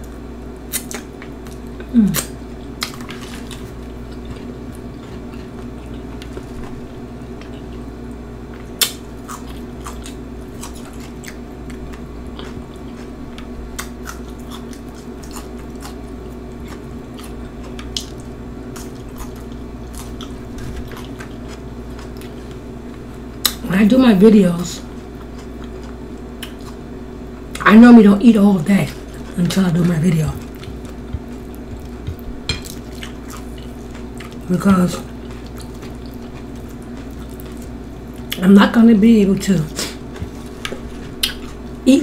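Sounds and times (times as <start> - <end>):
steady low hum: 0.0 - 42.0
chewing and crunching chips: 0.1 - 23.8, 24.6 - 38.8, 39.5 - 41.8.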